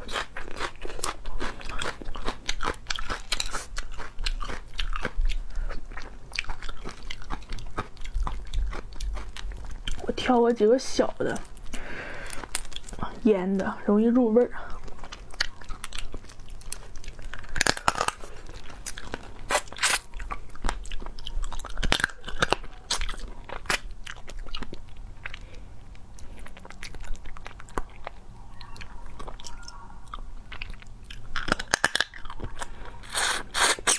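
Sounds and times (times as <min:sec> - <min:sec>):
chewing: 0:00.0 - 0:33.9
crab shell crunching: 0:00.0 - 0:33.9.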